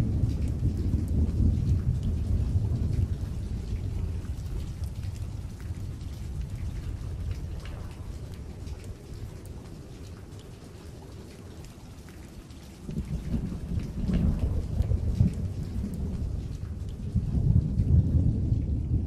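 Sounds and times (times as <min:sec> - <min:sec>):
heavy rain hissing and pattering: 0:00.0 - 0:19.0
rolling thunder rumble: 0:00.0 - 0:19.0.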